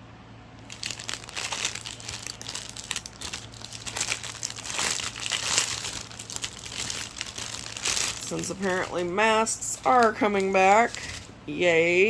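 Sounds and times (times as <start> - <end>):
packaging crinkling: 0.6 - 11.4.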